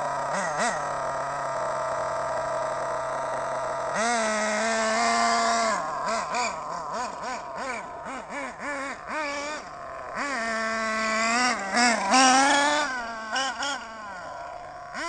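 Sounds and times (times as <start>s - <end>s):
model engine throttle blips: 0.0s - 15.0s.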